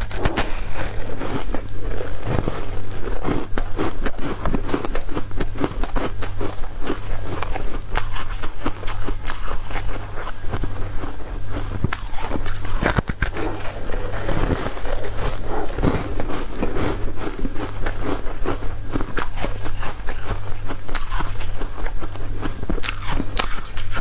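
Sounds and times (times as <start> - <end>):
chewing soft food: 0.0 - 24.0
steady low hum: 0.0 - 24.0.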